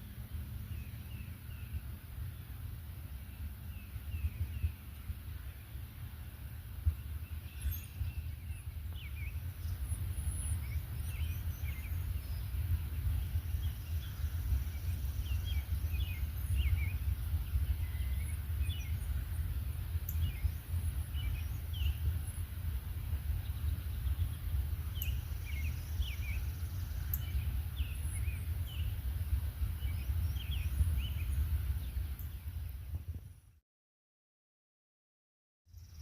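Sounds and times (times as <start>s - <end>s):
songbirds chirping: 0.0s - 33.5s, 35.7s - 36.0s
steady low rumble: 0.0s - 33.5s.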